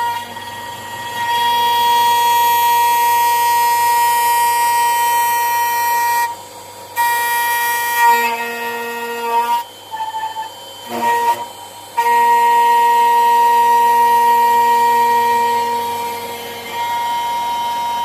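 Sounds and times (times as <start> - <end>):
router spindle whine: 0.0 - 18.0.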